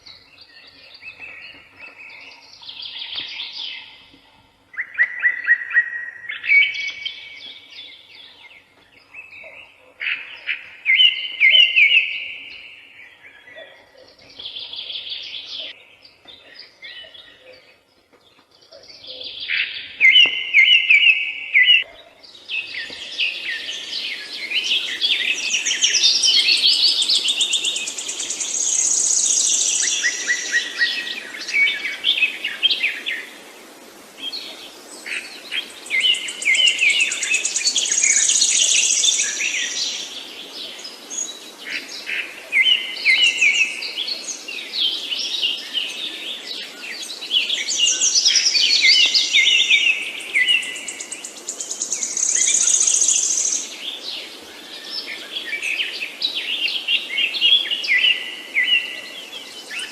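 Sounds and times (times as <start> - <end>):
faint background hiss: 0.0 - 59.9
songbirds singing and chirping: 0.0 - 59.9.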